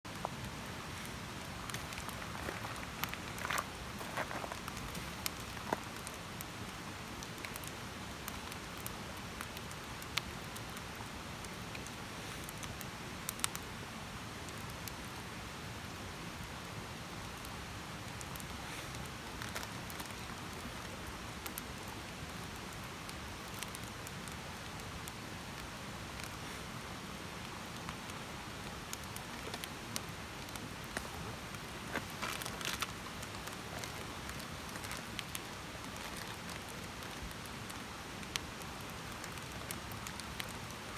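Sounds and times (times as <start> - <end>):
fire crackles and pops: 0.1 - 40.9.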